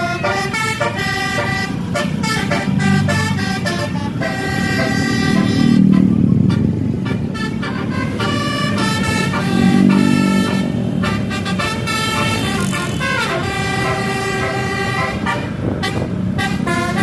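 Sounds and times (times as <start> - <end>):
bus engines rumbling: 0.0 - 17.0
multi-tone bus horn tune: 0.0 - 17.0.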